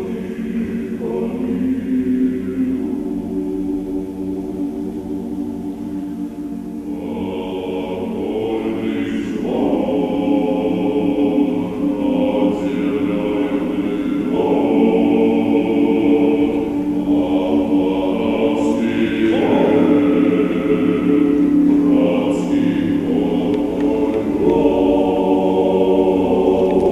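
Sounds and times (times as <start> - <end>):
men's choir singing unaccompanied: 0.0 - 26.9.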